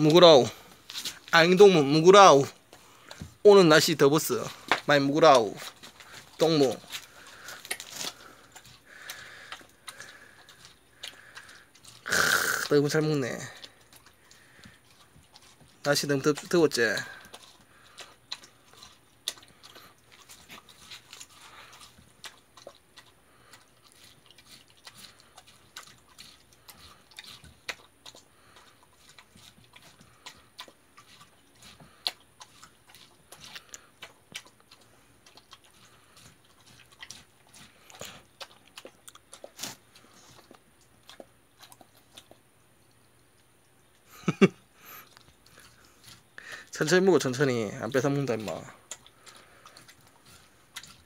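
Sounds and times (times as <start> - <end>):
dog chewing and crunching: 0.0 - 51.0.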